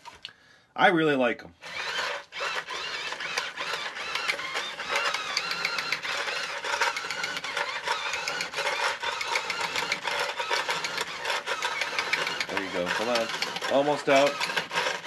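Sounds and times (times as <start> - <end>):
toy electric motor whirring: 1.6 - 15.0
gears clicking clatter: 1.7 - 15.0.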